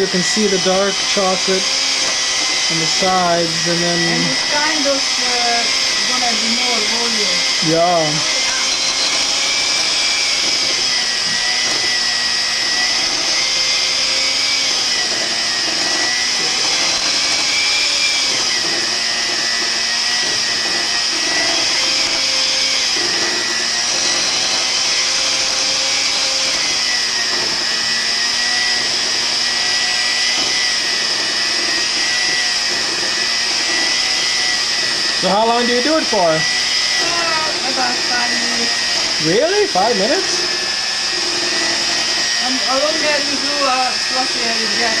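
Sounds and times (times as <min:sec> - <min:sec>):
electric hand mixer whining: 0:00.0 - 0:45.0.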